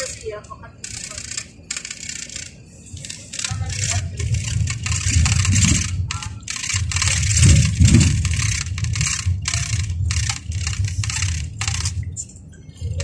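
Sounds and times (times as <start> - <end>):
rattling inside vehicle: 0.0 - 13.0
vehicle road rumble: 0.0 - 13.0.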